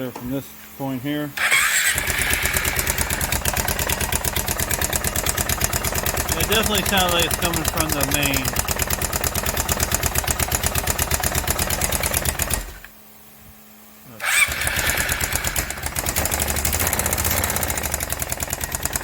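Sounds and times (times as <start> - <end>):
engine running with knock: 1.4 - 12.9, 14.2 - 19.0.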